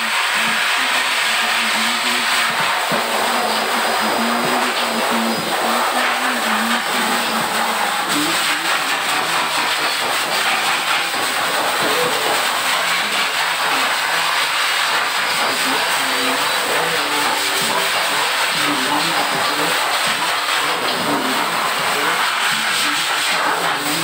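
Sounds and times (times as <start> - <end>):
blower dryer rush of air: 0.0 - 24.0.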